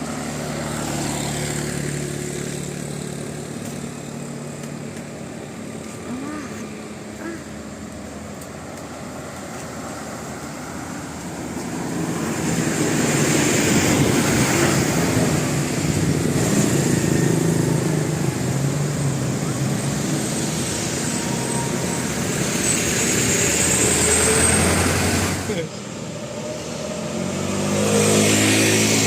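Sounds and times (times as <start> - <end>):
heavy vehicle engine passing: 0.0 - 29.0
road noise: 0.0 - 29.0.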